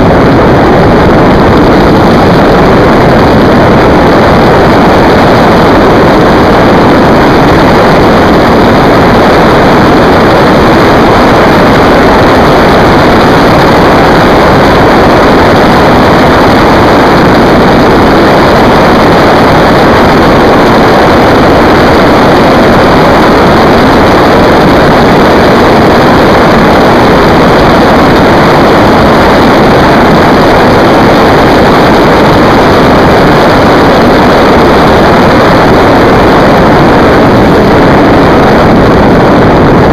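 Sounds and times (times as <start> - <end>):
motorcycle engine at high speed: 0.0 - 39.9
wind rush: 0.0 - 39.9.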